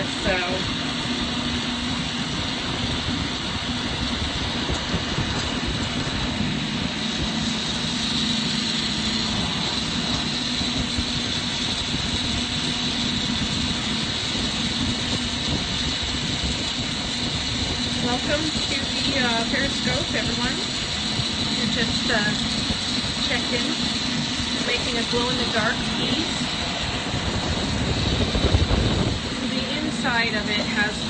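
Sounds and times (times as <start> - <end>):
torch flame roaring: 0.0 - 31.0
ventilation fan: 0.0 - 31.0.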